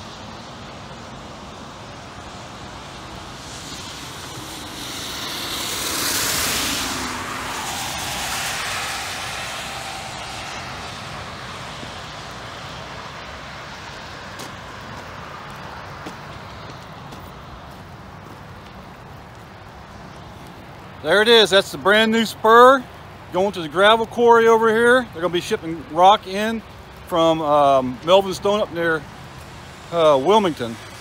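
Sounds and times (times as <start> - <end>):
tyre hiss on wet road: 0.0 - 31.0.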